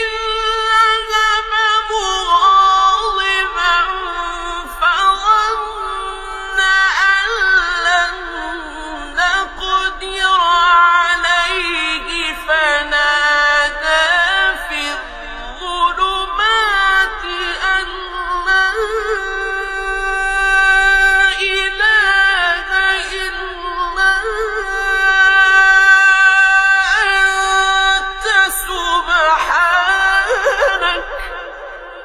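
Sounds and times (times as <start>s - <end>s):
man chanting melodically: 0.0s - 32.0s.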